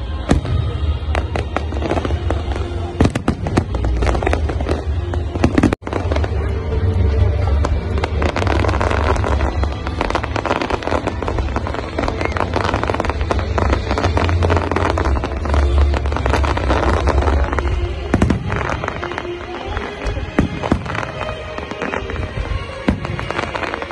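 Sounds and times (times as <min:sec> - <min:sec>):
deep fireworks rumble: 0:00.0 - 0:23.9
fireworks cracks and bangs: 0:00.0 - 0:23.9.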